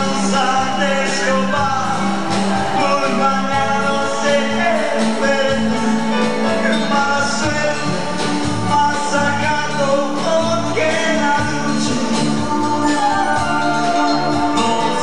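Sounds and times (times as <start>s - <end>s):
dance band playing: 0.0s - 15.0s.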